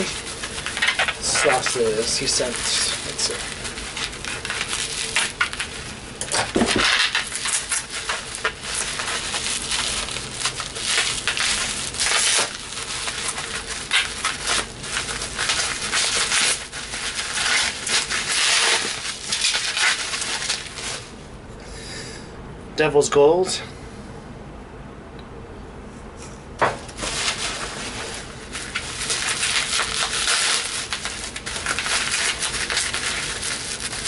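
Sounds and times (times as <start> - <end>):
packing material crinkling: 0.0 - 21.2, 26.6 - 34.0.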